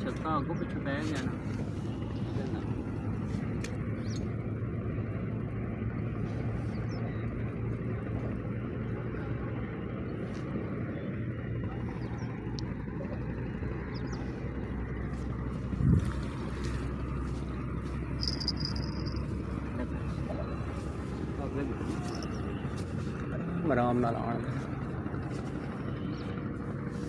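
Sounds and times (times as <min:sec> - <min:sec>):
low motor hum: 0:00.0 - 0:27.0.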